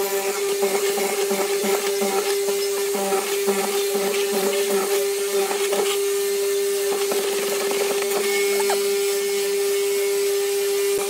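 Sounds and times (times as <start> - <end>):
mortiser motor humming: 0.0 - 11.0.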